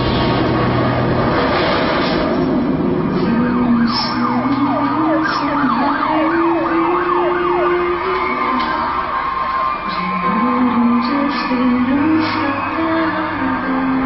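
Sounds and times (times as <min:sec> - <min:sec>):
emergency vehicle siren: 0:02.6 - 0:14.0.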